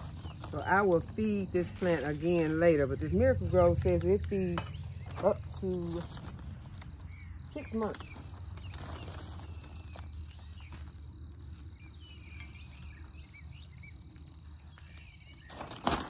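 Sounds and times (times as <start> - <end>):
scoop scraping potting mix: 0.0 - 6.9, 7.6 - 16.0.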